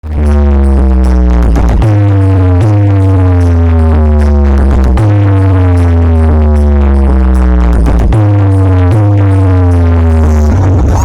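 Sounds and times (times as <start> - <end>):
heavy synth bass note: 0.0 - 11.0.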